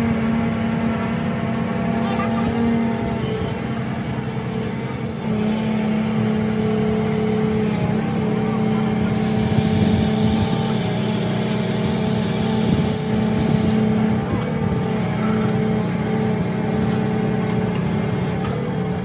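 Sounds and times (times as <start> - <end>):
engine droning hum: 0.0 - 19.0.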